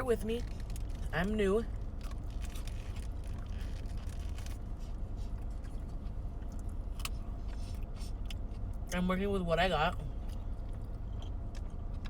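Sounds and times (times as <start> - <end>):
car cabin hum: 0.0 - 12.0
chewing food: 0.2 - 9.0, 10.0 - 12.0.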